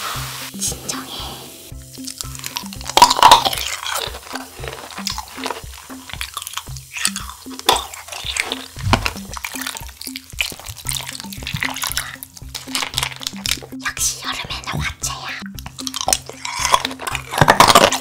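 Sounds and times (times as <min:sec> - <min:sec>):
background music with bass note: 0:00.0 - 0:18.0.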